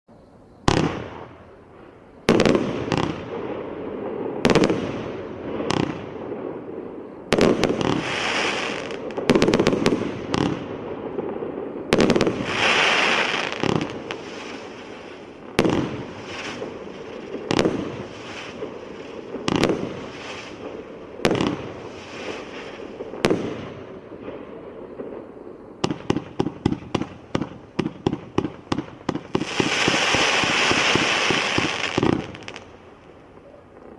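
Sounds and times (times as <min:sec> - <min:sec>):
fireworks bangs: 0:00.6 - 0:33.9
fireworks crackling spray: 0:02.2 - 0:25.2, 0:25.9 - 0:33.9.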